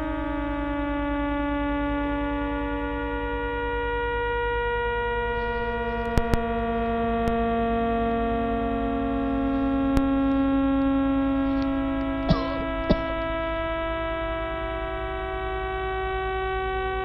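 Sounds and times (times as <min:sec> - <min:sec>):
dense chord of steady tones: 0:00.0 - 0:17.0.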